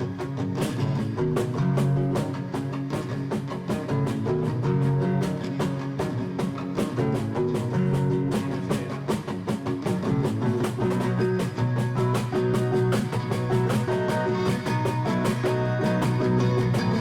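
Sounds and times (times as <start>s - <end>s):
drum kit beat: 0.0s - 17.0s
electric guitar: 0.0s - 17.0s.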